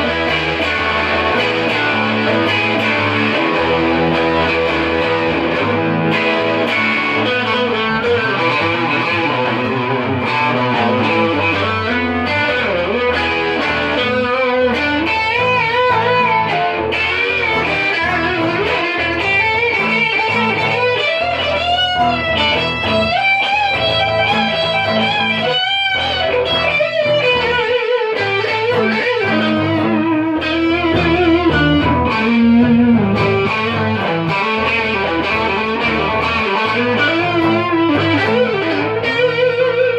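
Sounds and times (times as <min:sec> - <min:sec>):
electric guitar lead with vibrato: 0:00.0 - 0:39.9
rock band backing: 0:00.0 - 0:39.9.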